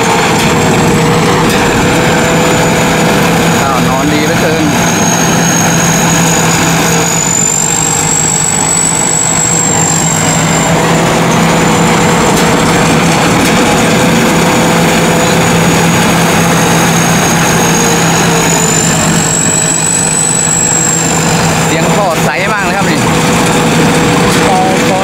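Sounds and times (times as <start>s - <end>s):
diesel engine running: 0.0s - 25.0s
high mechanical whine: 0.0s - 25.0s.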